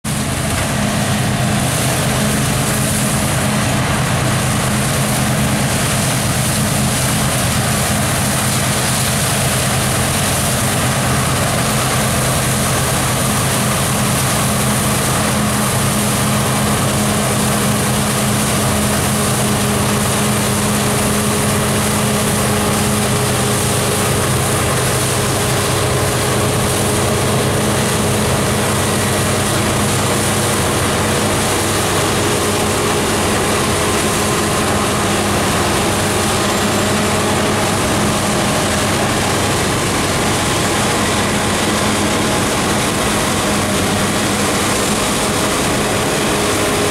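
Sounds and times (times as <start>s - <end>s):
combine harvester droning: 0.0s - 46.9s.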